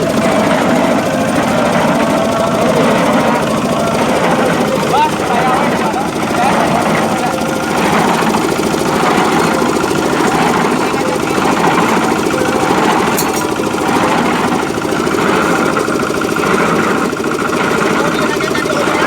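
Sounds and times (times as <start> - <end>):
diesel engine chugging: 0.0 - 19.0.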